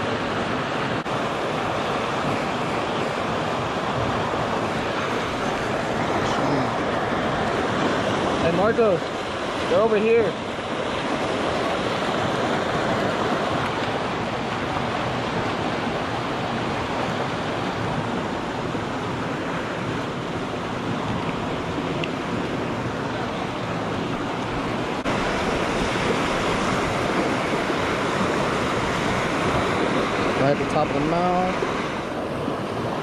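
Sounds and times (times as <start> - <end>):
river water flowing over rocks: 0.0 - 33.0.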